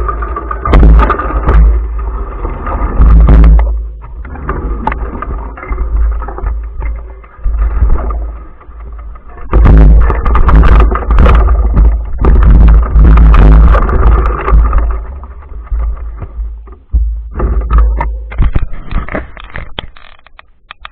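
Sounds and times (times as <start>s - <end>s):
wind rumble on microphone: 0.0s - 19.8s
sharp knocks and rattles: 0.0s - 20.9s
vehicle riding over rough ground: 0.0s - 20.9s.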